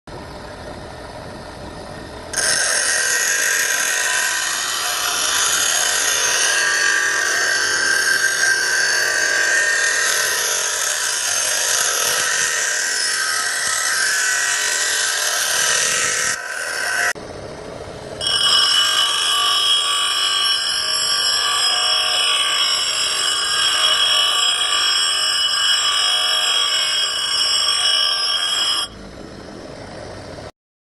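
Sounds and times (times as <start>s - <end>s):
power tool cutting wood: 2.3s - 17.2s, 18.2s - 28.9s.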